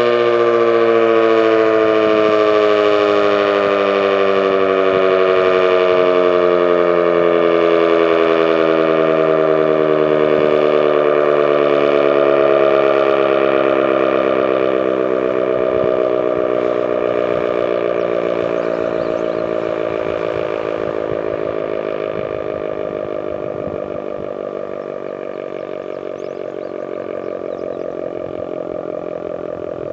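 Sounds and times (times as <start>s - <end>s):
electric siren winding down: 0.0s - 29.9s.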